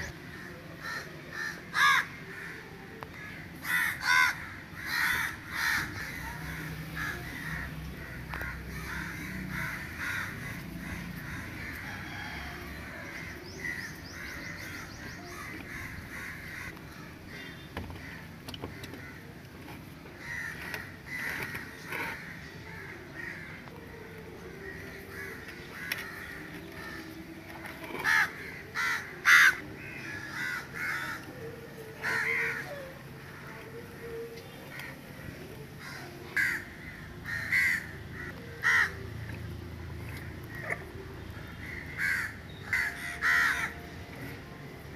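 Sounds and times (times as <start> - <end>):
crows cawing: 0.4 - 19.4, 20.1 - 39.1, 41.4 - 43.8.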